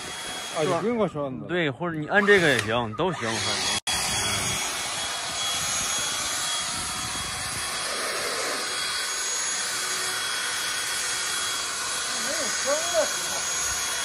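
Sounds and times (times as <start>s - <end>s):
leaf blower running: 0.0s - 1.0s, 3.2s - 14.0s.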